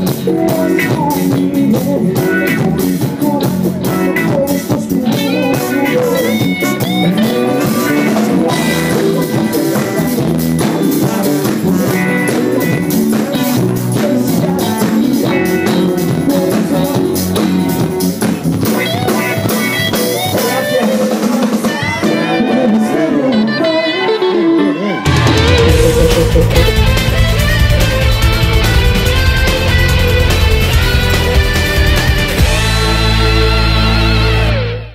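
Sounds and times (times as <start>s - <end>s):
drum kit: 0.0s - 22.4s, 25.1s - 34.9s
electric guitar: 0.0s - 34.9s
live blues-rock band: 0.0s - 34.9s.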